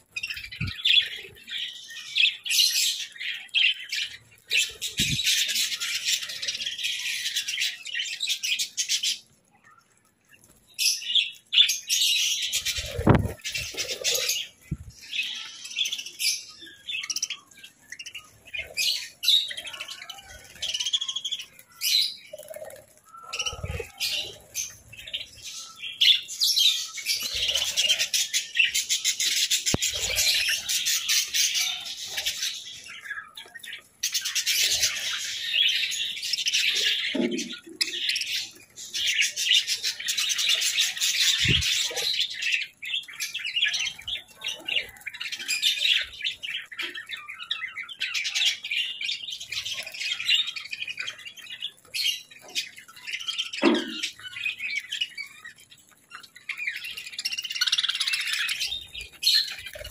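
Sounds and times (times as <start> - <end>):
budgerigars chattering and chirping: 11.0 - 59.9.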